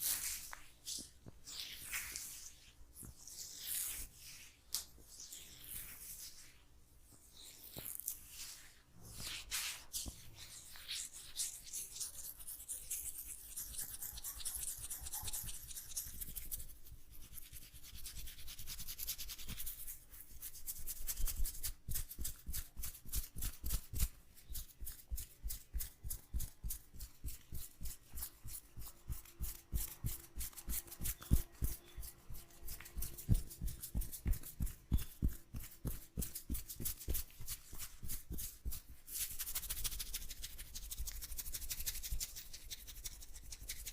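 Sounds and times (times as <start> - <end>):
hands rubbing hair and scalp: 0.0 - 43.9.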